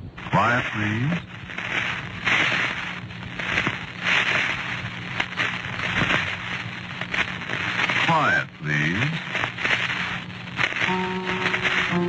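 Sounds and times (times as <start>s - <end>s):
crackles: 0.0s - 12.0s
low recording hum: 0.0s - 12.0s
rain hissing: 0.0s - 12.0s.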